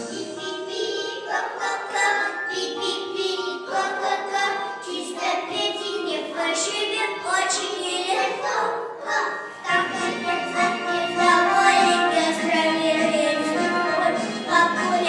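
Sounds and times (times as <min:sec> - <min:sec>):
children singing: 0:00.0 - 0:15.0
musical accompaniment: 0:00.0 - 0:15.0.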